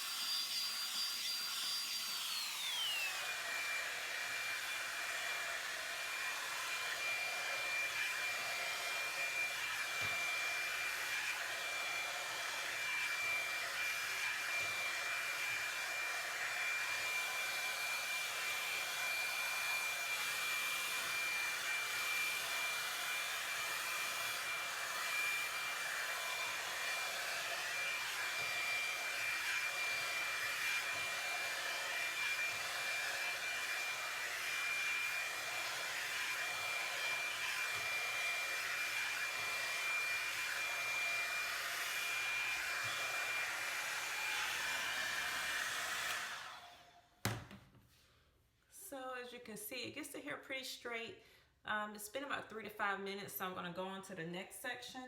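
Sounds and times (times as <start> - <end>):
hair dryer running: 0.0 - 47.7.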